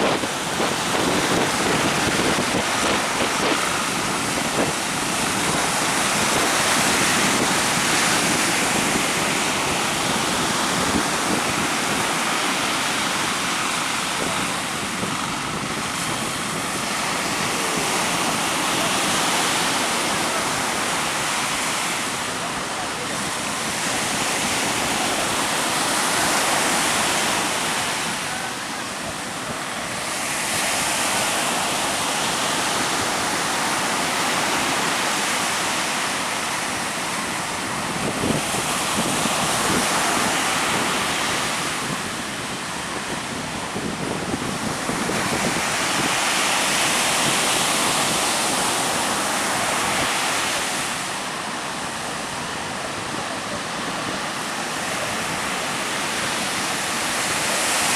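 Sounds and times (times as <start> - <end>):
sea surf breaking: 0.0 - 57.9
strong wind: 0.0 - 57.9.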